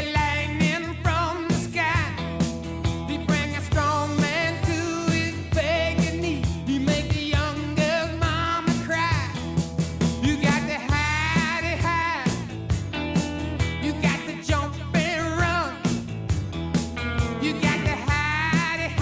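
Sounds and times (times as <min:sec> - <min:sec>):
rock song with vocals: 0:00.0 - 0:19.0.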